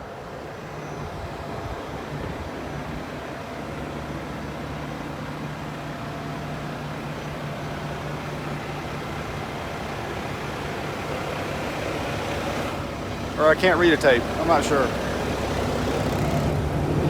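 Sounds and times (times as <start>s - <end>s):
diesel truck engine drone: 0.0s - 17.0s.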